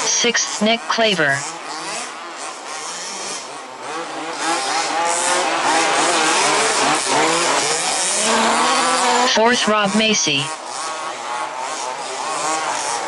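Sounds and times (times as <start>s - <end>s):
small engines racing and revving: 0.0s - 13.0s.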